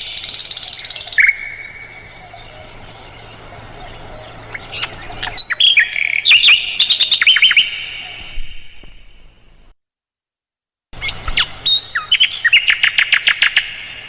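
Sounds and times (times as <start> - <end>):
flycatcher singing: 0.0 - 8.8, 11.0 - 14.0.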